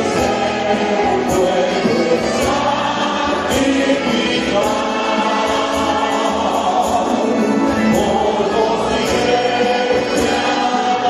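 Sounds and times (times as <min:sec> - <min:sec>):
congregation singing a hymn: 0:00.0 - 0:11.0
instruments playing along: 0:00.0 - 0:11.0.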